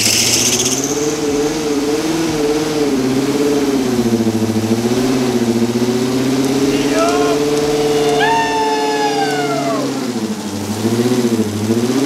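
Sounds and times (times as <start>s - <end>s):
truck engine revving high: 0.0s - 12.0s.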